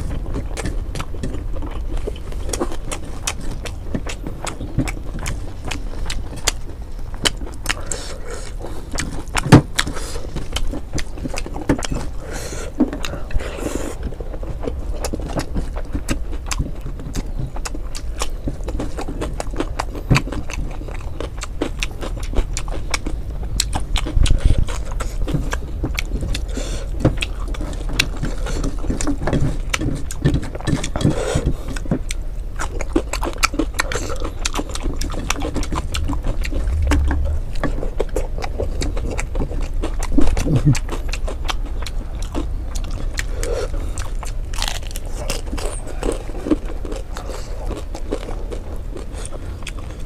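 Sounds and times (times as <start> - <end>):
steady low hum: 0.0 - 50.0
wet mouth chewing sounds: 0.0 - 50.0.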